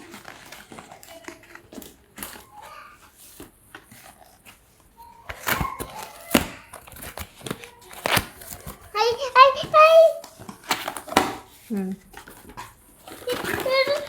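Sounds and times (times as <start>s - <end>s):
hands opening a package: 0.0s - 14.0s.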